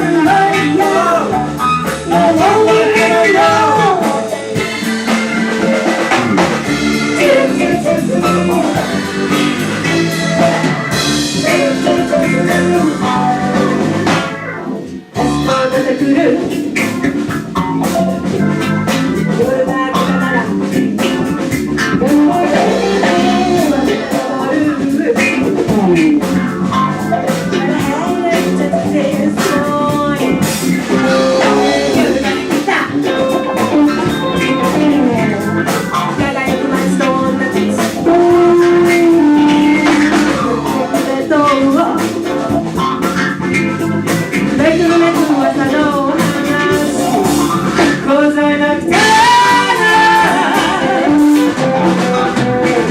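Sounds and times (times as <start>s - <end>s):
band playing funk: 0.0s - 52.9s
guitar bending melody lines: 0.0s - 52.9s.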